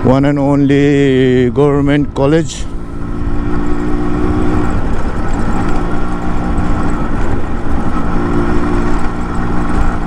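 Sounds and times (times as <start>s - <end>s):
two-stroke motorcycle engine running: 0.0s - 10.0s.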